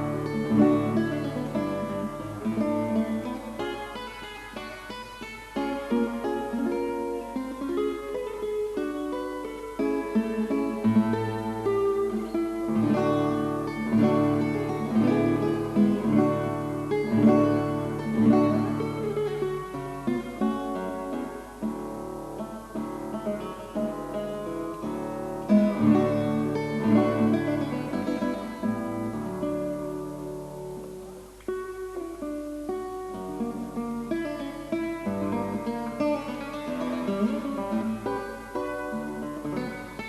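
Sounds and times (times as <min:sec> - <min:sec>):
acoustic guitar: 0:00.0 - 0:40.0.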